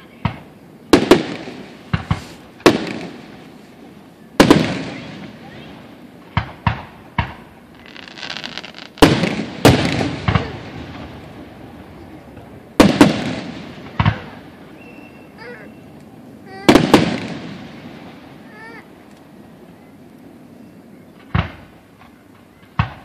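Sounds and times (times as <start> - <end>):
fireworks booming: 0.0 - 19.7, 21.1 - 23.0.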